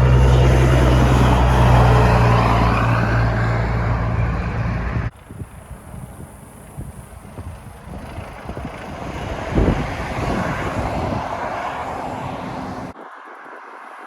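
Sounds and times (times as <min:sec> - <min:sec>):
road vehicle passing: 0:00.0 - 0:13.8
wind buffeting microphone: 0:00.0 - 0:14.0.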